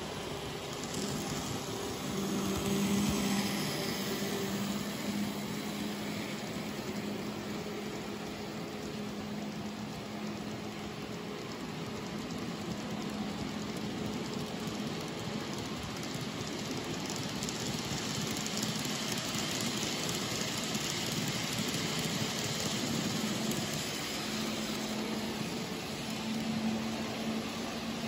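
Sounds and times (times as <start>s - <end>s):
model train wheels clattering: 0.0s - 28.0s.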